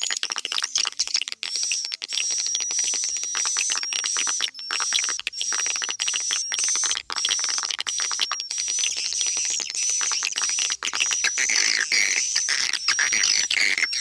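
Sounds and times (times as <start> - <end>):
rapid chirping and clicking: 0.0 - 14.0.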